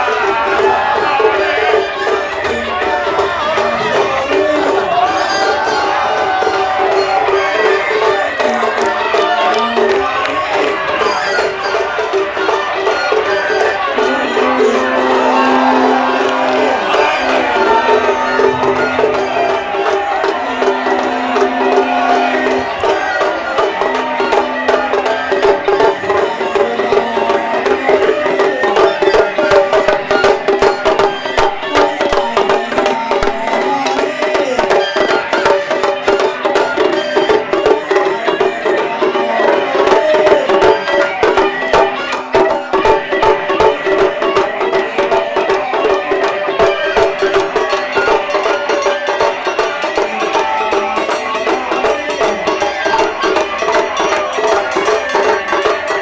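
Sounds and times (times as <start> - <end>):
taiko drums in fast rhythm: 0.0 - 56.0.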